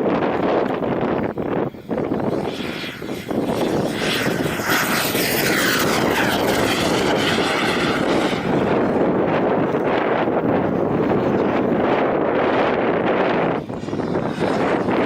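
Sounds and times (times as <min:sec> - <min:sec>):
model jet turbine whine passing: 0:00.0 - 0:15.0
wind buffeting microphone: 0:00.0 - 0:15.0.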